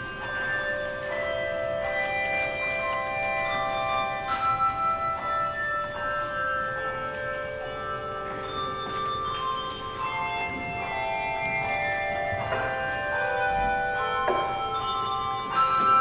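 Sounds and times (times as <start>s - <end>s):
handbells ringing: 0.0s - 16.0s.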